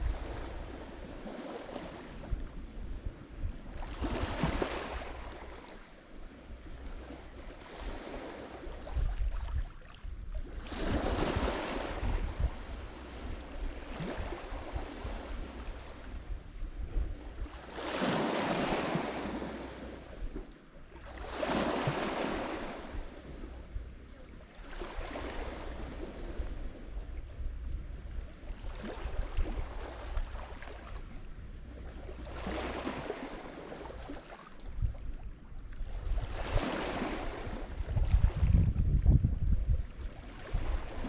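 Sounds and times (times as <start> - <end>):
waves breaking on shore: 0.0 - 27.1, 28.1 - 41.0.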